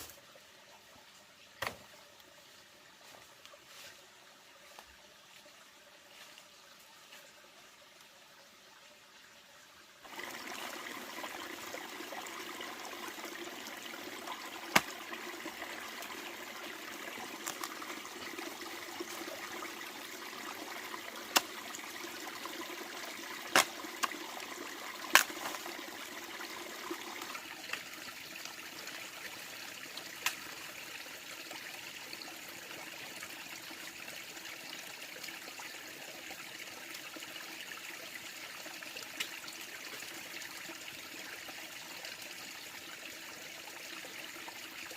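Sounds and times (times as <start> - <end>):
water trickling: 4.6 - 44.9.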